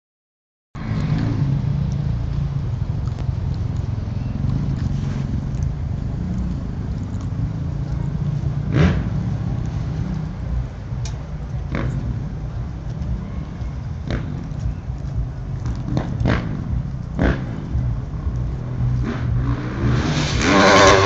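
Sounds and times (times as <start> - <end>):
engine rumbling: 0.8 - 21.0.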